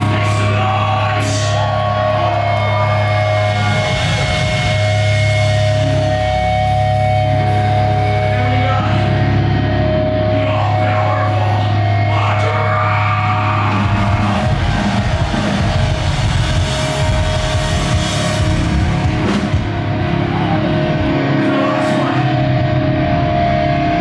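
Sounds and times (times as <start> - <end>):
metalcore band playing live: 0.0 - 24.0.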